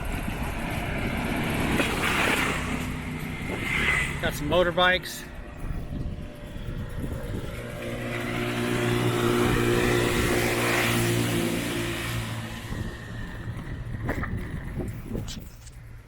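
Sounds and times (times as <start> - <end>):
motorbike passing by: 0.0 - 15.0.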